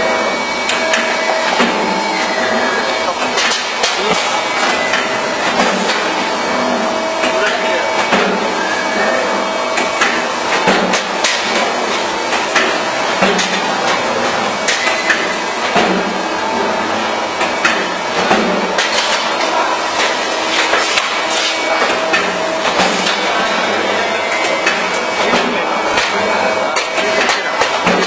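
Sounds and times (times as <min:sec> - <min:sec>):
factory noise: 0:00.0 - 0:28.0
machine hum: 0:00.0 - 0:28.0.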